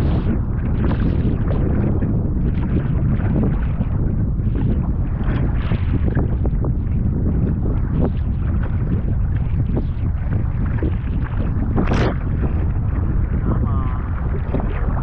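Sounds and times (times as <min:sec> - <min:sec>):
water splashing around kayak: 0:00.0 - 0:15.0
wind buffeting microphone: 0:00.0 - 0:15.0.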